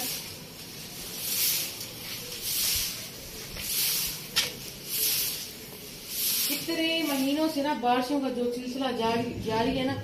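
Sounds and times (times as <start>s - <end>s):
broom sweeping tiled floor: 0.0s - 9.6s.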